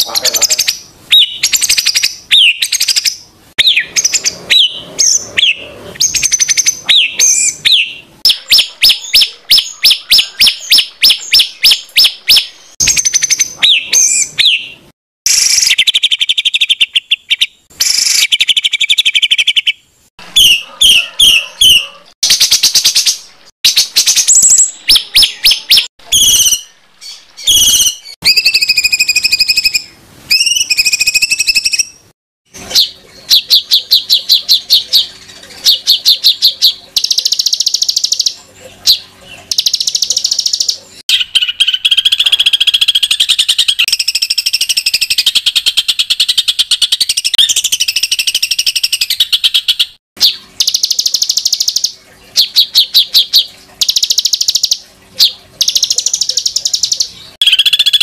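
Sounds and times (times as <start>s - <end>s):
songbird singing: 0.0s - 32.0s, 32.7s - 58.0s.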